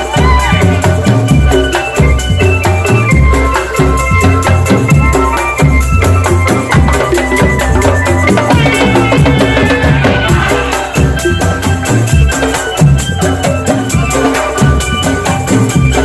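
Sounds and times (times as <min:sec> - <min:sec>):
drum band playing: 0:00.0 - 0:16.0
melody: 0:00.0 - 0:16.0
pulsing bass beat: 0:00.0 - 0:16.0.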